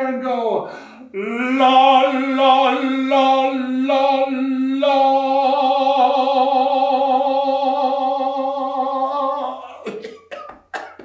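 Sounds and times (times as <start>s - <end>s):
short vocal sounds: 0.9s - 11.0s
man singing long note with vibrato: 1.0s - 9.9s.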